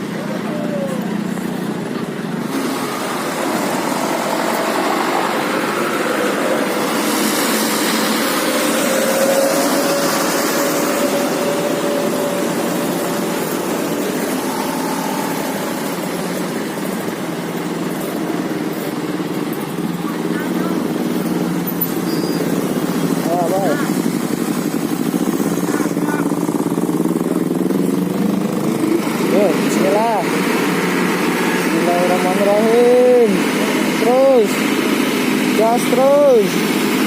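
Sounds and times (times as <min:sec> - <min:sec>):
engine revving with hiss: 0:00.0 - 0:37.0
traffic engines droning: 0:00.0 - 0:37.0.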